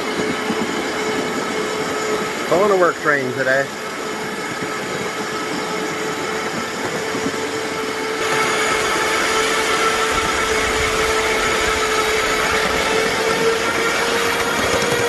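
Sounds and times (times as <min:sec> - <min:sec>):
miniature train rolling: 0:00.0 - 0:15.0
train motor whine: 0:00.0 - 0:15.0.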